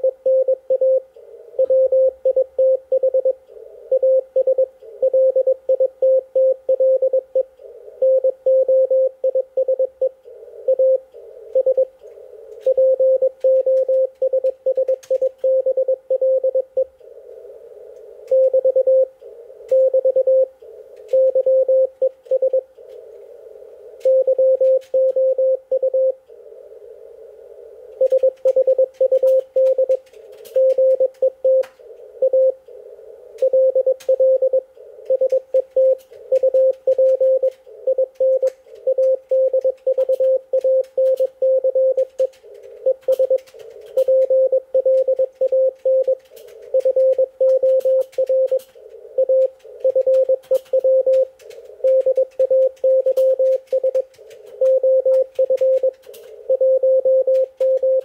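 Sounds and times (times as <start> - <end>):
morse code tone: 0.0 - 11.9, 12.6 - 16.9, 18.3 - 20.5, 21.1 - 22.7, 24.0 - 26.2, 28.0 - 30.0, 30.6 - 32.6, 33.4 - 48.6, 49.2 - 54.0, 54.6 - 58.0
radio band noise hiss: 1.0 - 5.7, 7.2 - 8.4, 9.1 - 56.6.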